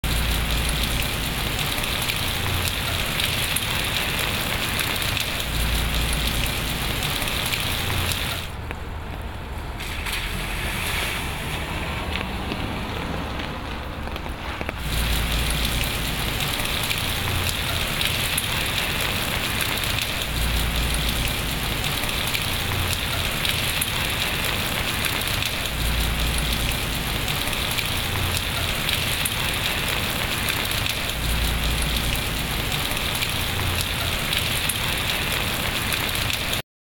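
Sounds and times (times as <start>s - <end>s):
rain falling on water: 0.0s - 36.6s.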